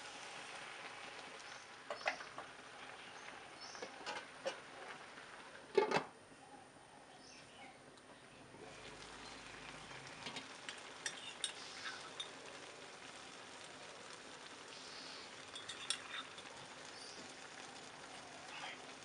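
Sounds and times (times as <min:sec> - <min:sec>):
curry sizzling in a wok: 0:00.0 - 0:05.8, 0:08.4 - 0:19.0.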